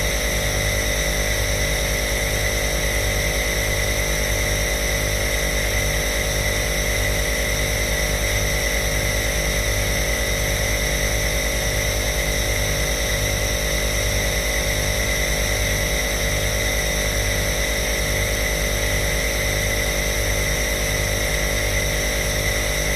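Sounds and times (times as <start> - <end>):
air compressor motor humming: 0.0 - 22.9.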